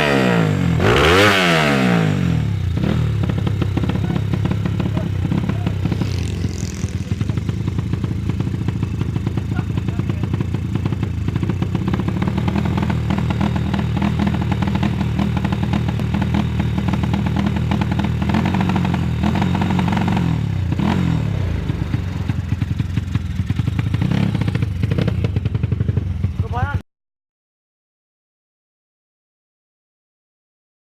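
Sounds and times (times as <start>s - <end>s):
motorcycle engine revving: 0.0s - 26.8s.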